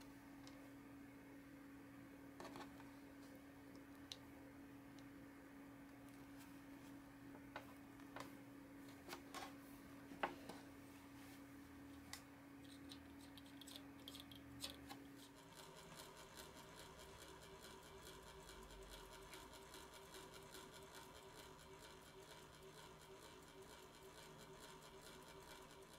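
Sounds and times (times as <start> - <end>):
faint room hum: 0.0 - 25.9.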